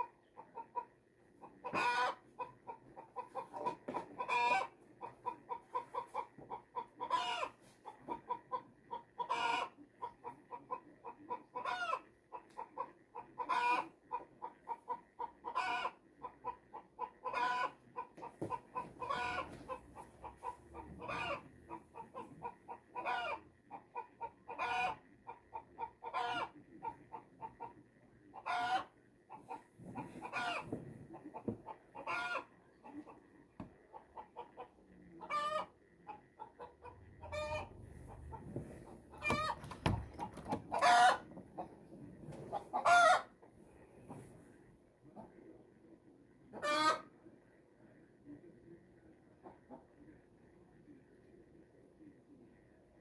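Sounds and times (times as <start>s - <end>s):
chickens clucking: 0.0s - 45.6s, 46.4s - 47.3s.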